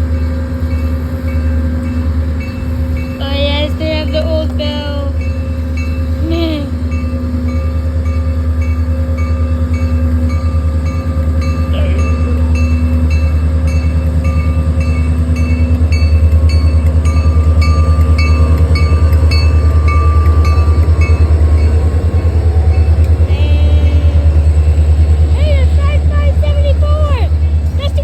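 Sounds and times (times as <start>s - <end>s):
diesel locomotive engine rumble: 0.0s - 28.0s
locomotive bell ringing: 0.0s - 28.0s.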